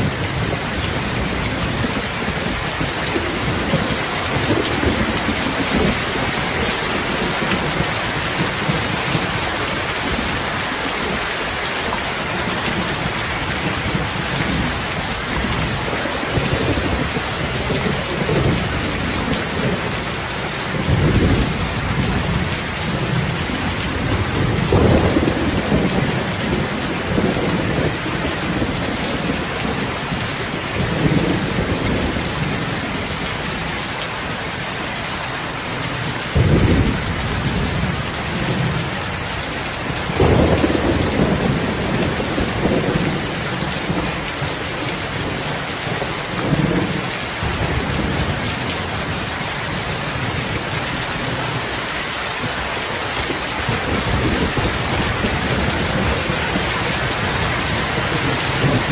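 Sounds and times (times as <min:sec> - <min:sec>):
rolling thunder rumbling: 0:00.0 - 0:11.3, 0:12.0 - 0:33.7, 0:36.0 - 0:51.7, 0:53.2 - 0:58.9
heavy rain: 0:00.0 - 0:58.9.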